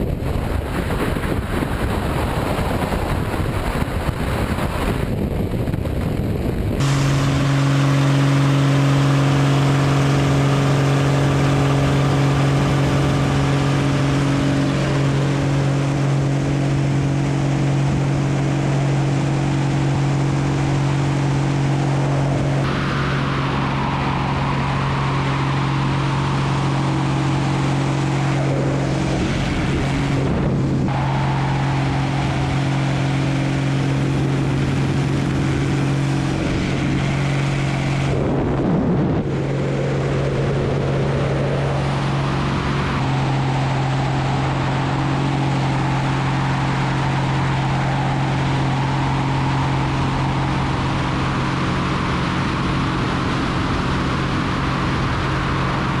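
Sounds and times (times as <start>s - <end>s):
airplane engine and propeller droning: 0.0s - 56.0s
heavy wind rush: 0.0s - 56.0s.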